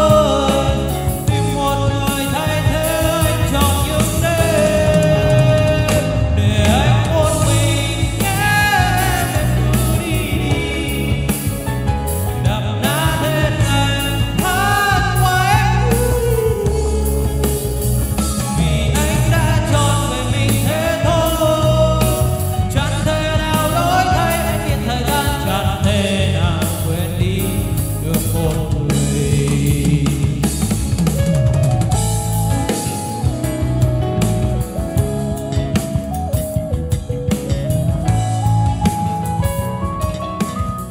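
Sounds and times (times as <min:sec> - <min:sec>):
man singing into a microphone: 0:00.0 - 0:36.2
backing track with drums and bass: 0:00.0 - 0:40.9.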